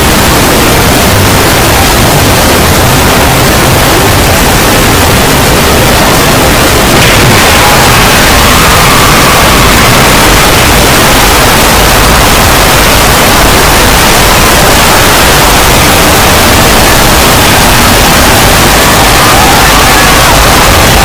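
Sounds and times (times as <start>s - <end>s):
harsh distorted noise: 0.0s - 21.0s.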